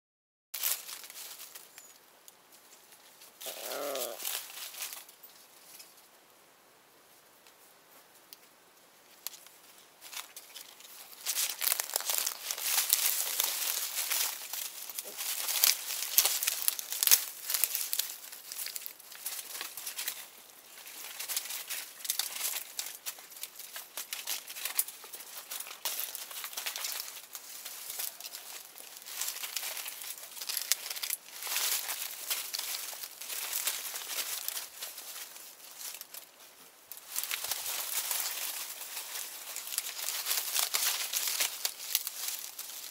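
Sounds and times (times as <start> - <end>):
dry leaves crackling: 0.6 - 6.1, 9.1 - 42.9.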